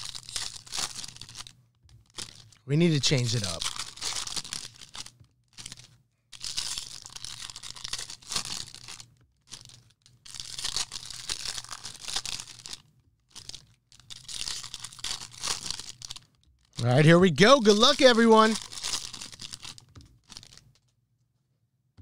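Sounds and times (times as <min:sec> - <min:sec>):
foil wrappers tearing and crinkling: 0:00.0 - 0:16.8, 0:17.7 - 0:20.6.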